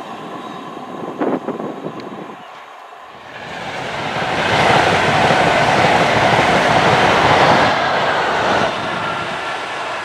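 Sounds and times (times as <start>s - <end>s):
train wheels rushing on rails: 0.0s - 10.0s.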